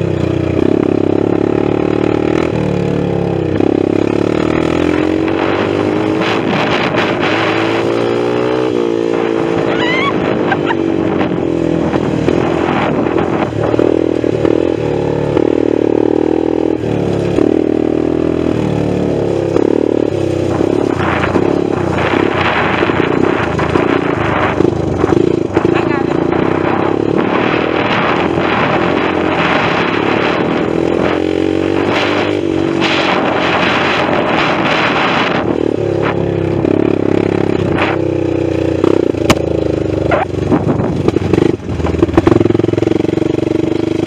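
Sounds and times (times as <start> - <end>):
atv engine revving: 0.0 - 44.0.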